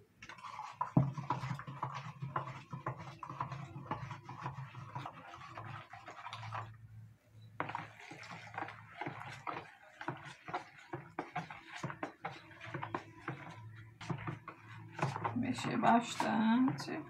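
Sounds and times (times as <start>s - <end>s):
liquid pouring into a basin: 0.2s - 6.8s, 7.6s - 15.3s.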